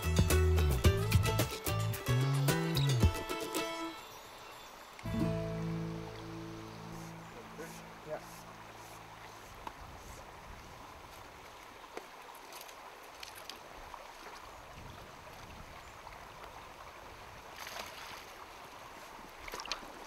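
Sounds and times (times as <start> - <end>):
stream water rushing: 1.5 - 20.0.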